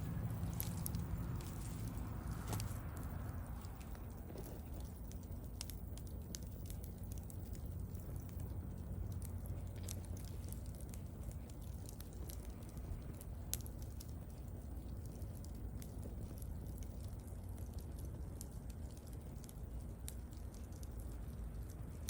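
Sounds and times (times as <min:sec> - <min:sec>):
bonfire crackling and popping: 0:00.0 - 0:22.0.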